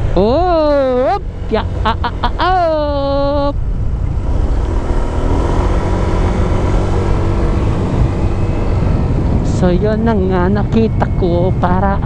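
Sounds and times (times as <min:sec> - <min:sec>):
scooter engine running: 0:00.0 - 0:12.0
wind rush on microphone: 0:00.0 - 0:12.0.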